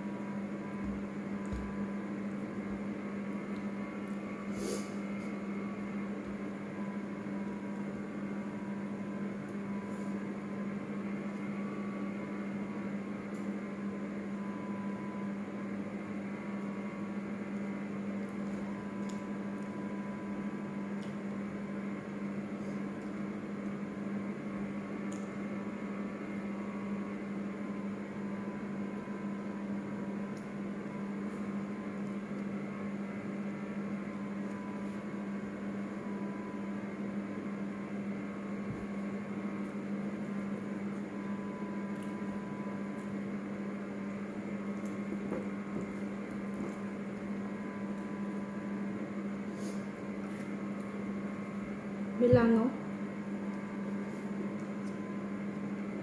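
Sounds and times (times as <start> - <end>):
mains hum: 0.0 - 56.0.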